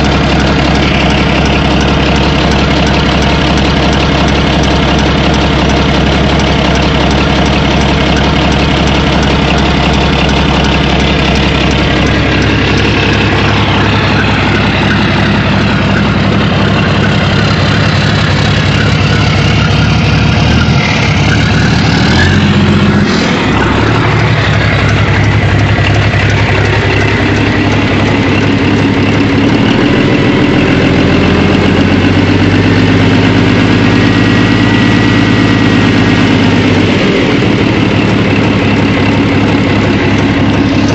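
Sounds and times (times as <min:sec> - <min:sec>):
diesel bulldozer engine running: 0:00.0 - 0:40.9.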